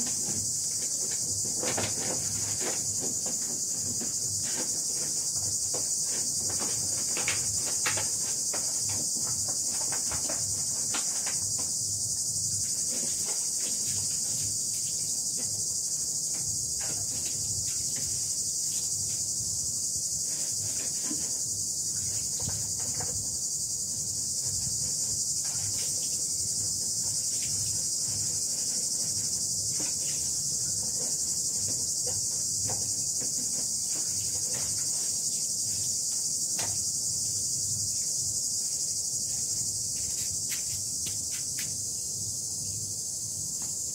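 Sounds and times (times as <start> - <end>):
high-pitched insect chorus: 0.0 - 43.9.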